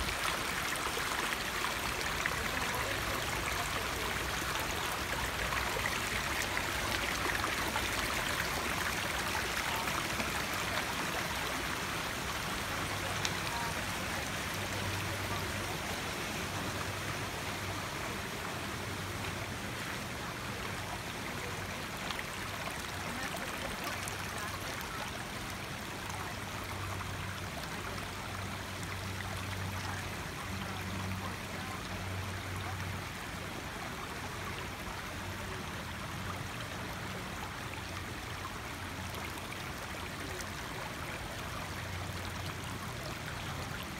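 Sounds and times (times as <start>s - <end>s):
creek water rushing over rocks: 0.0s - 43.9s.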